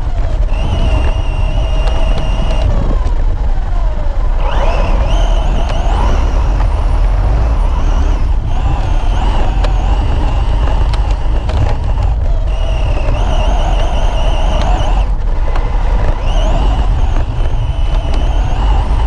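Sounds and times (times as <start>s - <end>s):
radio-controlled car motor whining: 0.0s - 19.0s
steady low rumble: 0.0s - 19.0s.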